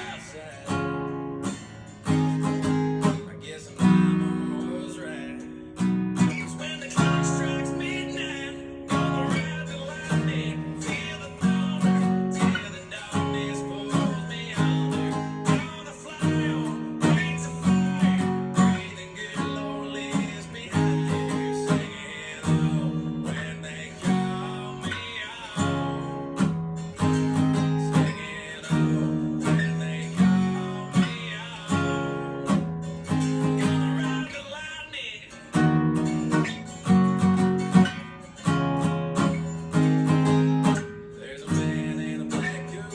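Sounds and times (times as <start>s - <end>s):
acoustic guitar strumming: 0.0s - 42.9s.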